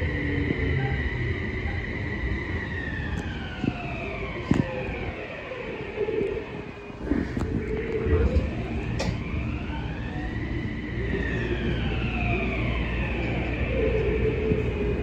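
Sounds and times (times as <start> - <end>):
low train running rumble: 0.0 - 15.0.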